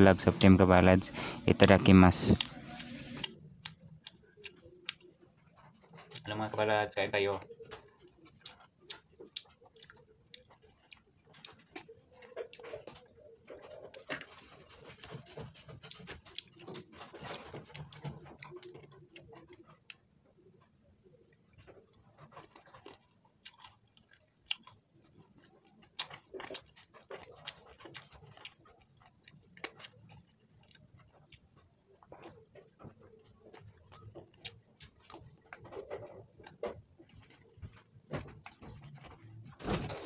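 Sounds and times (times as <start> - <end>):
chewing crispy fried chicken: 0.2 - 6.6, 7.2 - 39.5.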